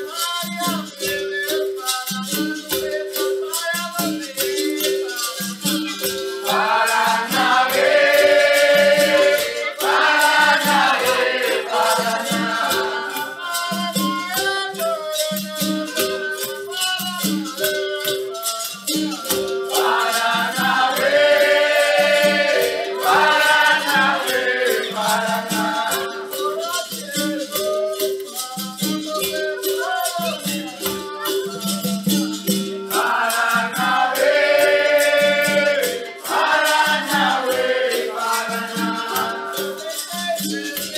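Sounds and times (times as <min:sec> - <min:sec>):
berimbau and rattle rhythm: 0:00.0 - 0:40.9
group singing: 0:00.0 - 0:40.9.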